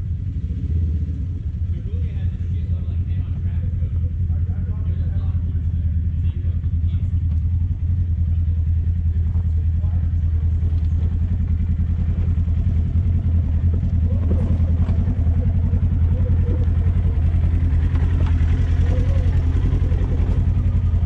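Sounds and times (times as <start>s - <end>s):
engine running at low revs: 0.0s - 21.0s
faint voices: 1.7s - 21.0s.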